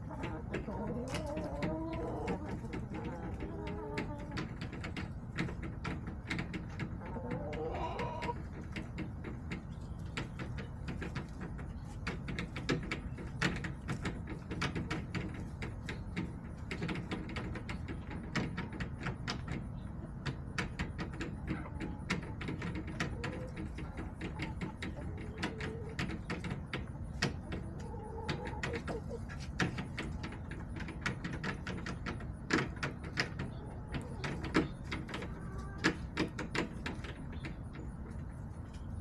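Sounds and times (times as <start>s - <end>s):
chickens pecking on hard surface: 0.0s - 39.0s
hen clucking: 0.0s - 39.0s.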